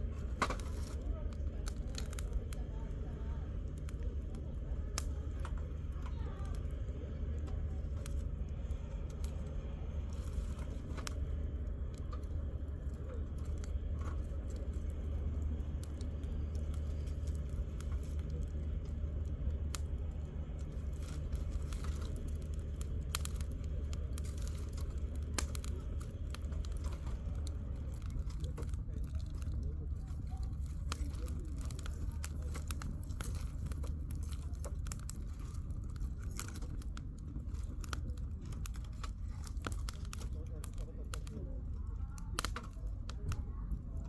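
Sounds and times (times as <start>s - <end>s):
campfire crackling and popping: 0.0s - 44.0s
low rumble: 0.0s - 44.0s.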